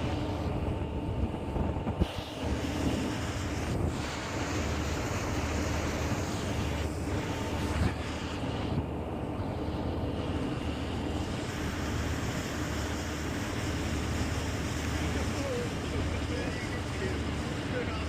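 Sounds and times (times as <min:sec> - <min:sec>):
wind buffeting microphone: 0:00.0 - 0:17.8
ferry engines droning: 0:00.0 - 0:18.0.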